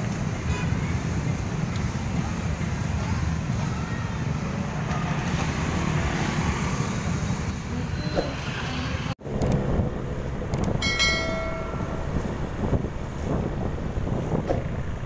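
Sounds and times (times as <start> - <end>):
cars passing: 0.0 - 15.0
motorbike and scooter engines: 0.0 - 15.0.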